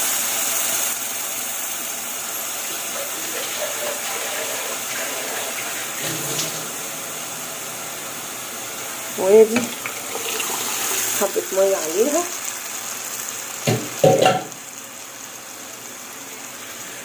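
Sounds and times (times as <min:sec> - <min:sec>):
tomato sauce sizzling in hot oil: 0:00.0 - 0:17.0.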